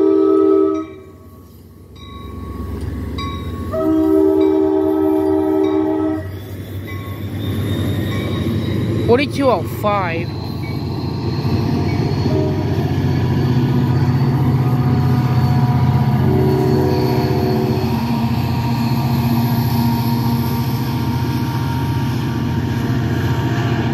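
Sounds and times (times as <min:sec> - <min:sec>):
diesel locomotive engine drone: 0:00.0 - 0:23.9
train rumbling on rails: 0:00.0 - 0:23.9.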